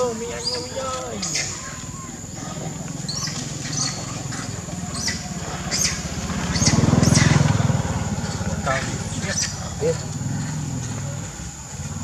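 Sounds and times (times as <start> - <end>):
motor engine humming: 1.8 - 12.0.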